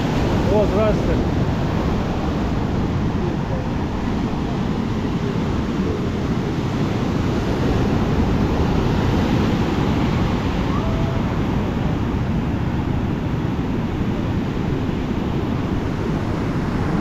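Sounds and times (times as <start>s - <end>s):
surf breaking on shore: 0.0s - 17.0s
wind buffeting microphone: 0.0s - 17.0s.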